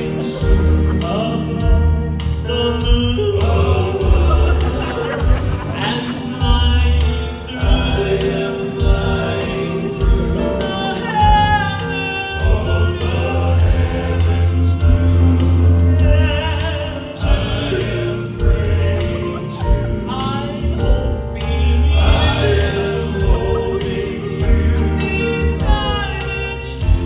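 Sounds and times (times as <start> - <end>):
bass line: 0.0 - 27.0
drum beats: 0.0 - 27.0
male vocal quartet singing: 0.0 - 27.0.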